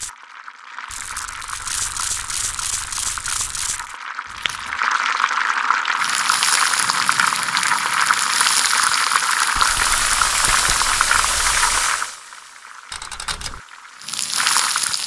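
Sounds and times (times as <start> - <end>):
food sizzling in a pan: 0.0 - 12.9, 13.7 - 15.0.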